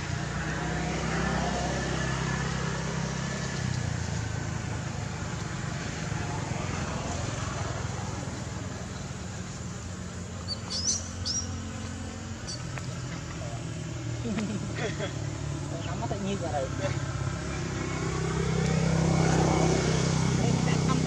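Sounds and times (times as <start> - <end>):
distant traffic rumble: 0.0 - 21.0.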